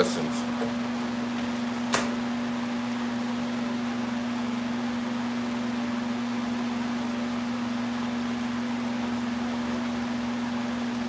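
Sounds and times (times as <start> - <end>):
space heater fan whirring: 0.0 - 11.0.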